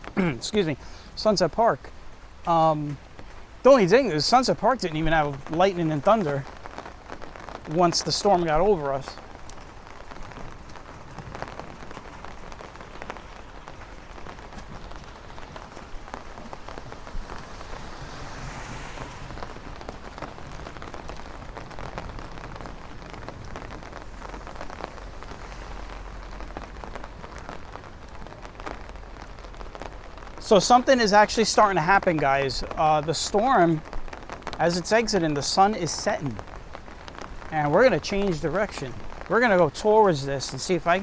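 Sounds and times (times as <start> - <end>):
rain pattering on street: 0.0 - 41.0.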